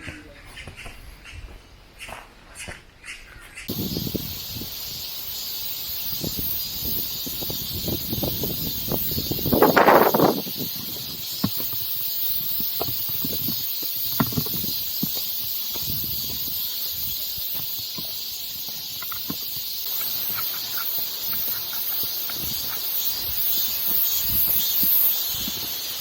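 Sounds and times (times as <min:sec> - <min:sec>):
wind buffeting microphone: 0:03.7 - 0:26.0.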